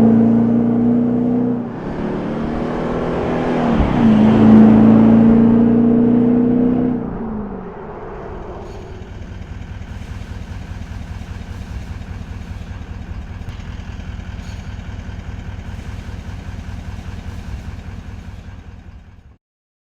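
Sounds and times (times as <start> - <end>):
diesel engine rumbling: 0.0 - 19.4.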